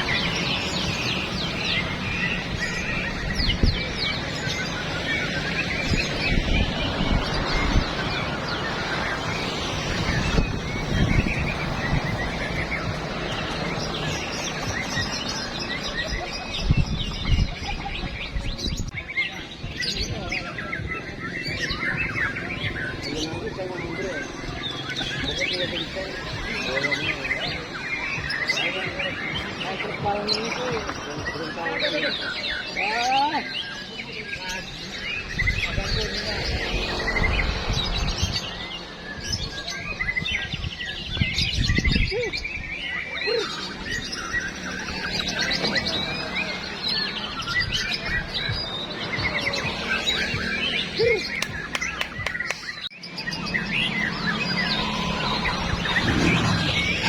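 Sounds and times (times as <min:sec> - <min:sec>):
birds singing: 0:00.0 - 0:57.0.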